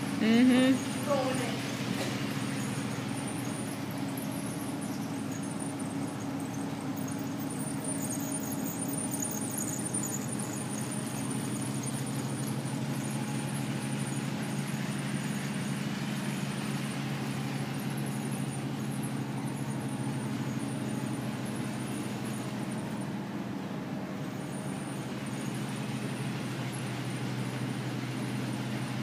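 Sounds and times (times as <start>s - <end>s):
small train motors humming: 0.0s - 29.0s.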